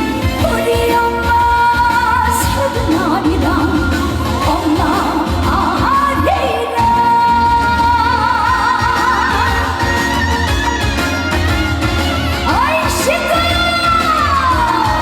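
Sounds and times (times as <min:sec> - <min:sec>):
band accompaniment: 0:00.0 - 0:15.0
woman singing ballad: 0:00.0 - 0:15.0.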